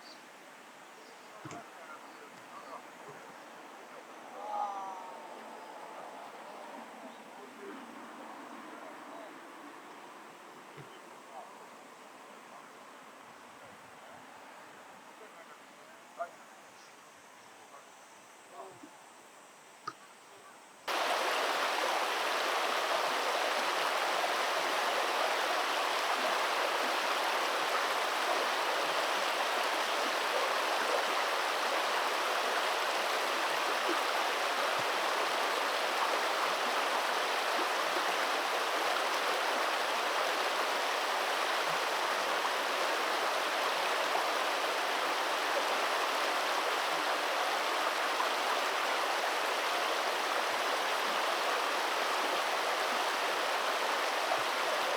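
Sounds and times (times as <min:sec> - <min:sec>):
stream water flowing: 0:00.0 - 0:15.8, 0:20.9 - 0:54.9.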